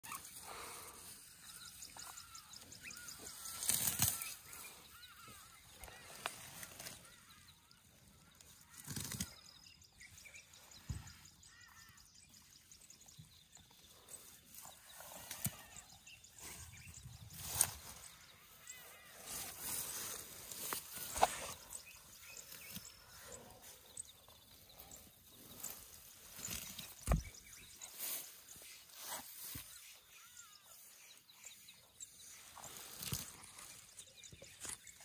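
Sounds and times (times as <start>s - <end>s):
elephants rustling in grass: 0.0s - 7.4s, 8.2s - 9.5s, 14.1s - 31.3s, 32.3s - 35.0s
birds chirping: 0.0s - 35.0s.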